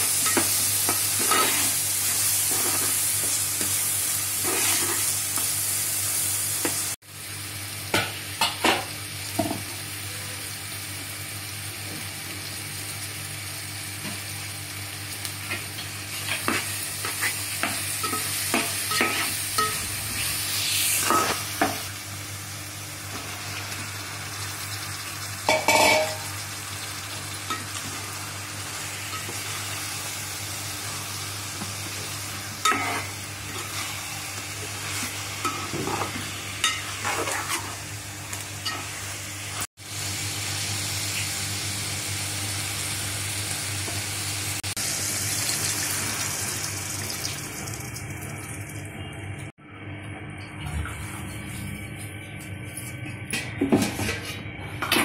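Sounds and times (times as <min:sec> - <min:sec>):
spice paste sizzling in a pot: 0:00.0 - 0:11.8, 0:12.5 - 0:47.7.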